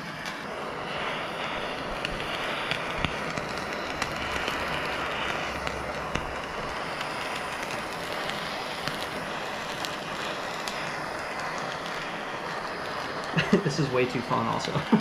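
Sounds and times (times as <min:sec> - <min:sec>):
gas torch flame hissing: 0:00.0 - 0:15.0.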